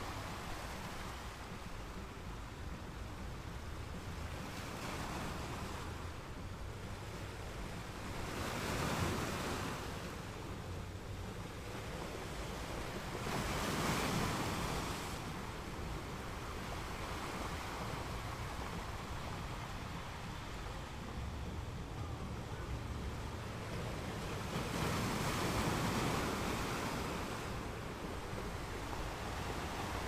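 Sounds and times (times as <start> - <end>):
wind gusts: 0.0 - 30.0.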